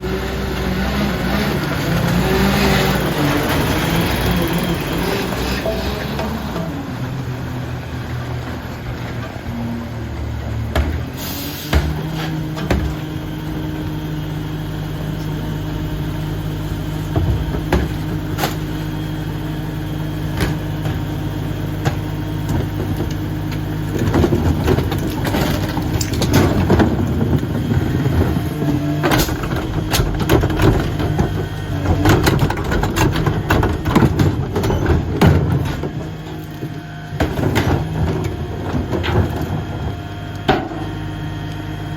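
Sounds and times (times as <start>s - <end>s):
garbage truck engine running: 0.0s - 41.9s
bins banging and clattering: 0.4s - 7.2s, 10.6s - 41.2s.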